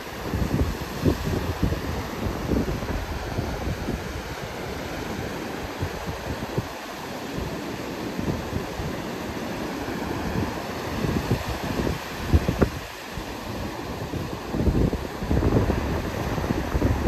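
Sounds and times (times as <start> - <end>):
surf washing: 0.0 - 17.0
wind buffeting the microphone: 0.0 - 17.0.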